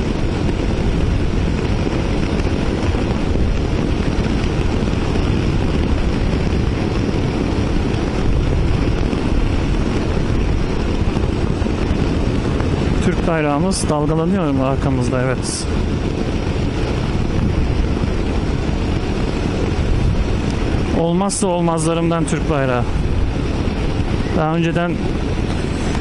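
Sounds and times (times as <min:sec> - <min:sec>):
motorcycle engine cruising: 0:00.0 - 0:26.0
wind over motorcycle helmet: 0:00.0 - 0:26.0.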